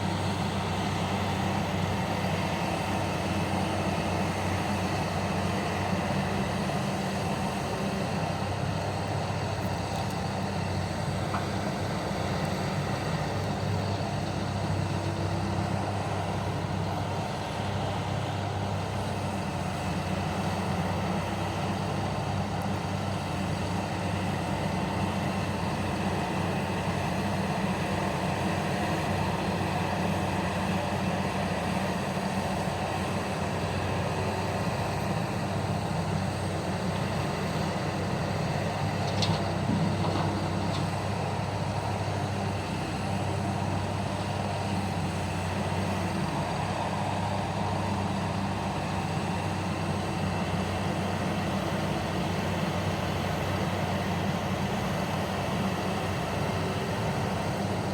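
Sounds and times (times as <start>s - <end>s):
heavy diesel engines droning: 0.0s - 57.9s.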